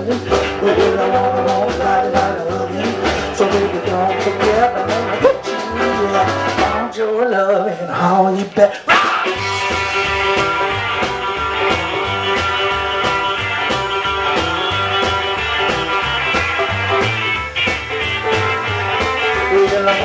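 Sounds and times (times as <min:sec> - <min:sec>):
electric guitar: 0:00.0 - 0:20.0
rock and roll band playing: 0:00.0 - 0:20.0.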